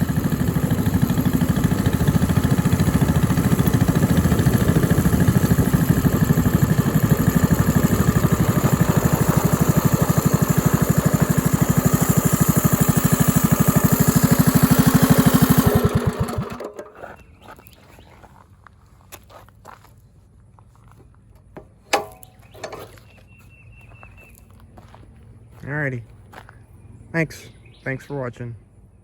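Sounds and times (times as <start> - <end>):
small engine idling: 0.0 - 18.9, 20.1 - 25.6.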